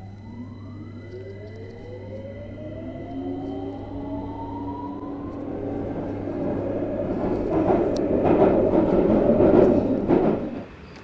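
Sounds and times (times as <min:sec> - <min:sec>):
train motor whine: 0:00.0 - 0:11.0
wheel and track rumble: 0:00.0 - 0:11.0.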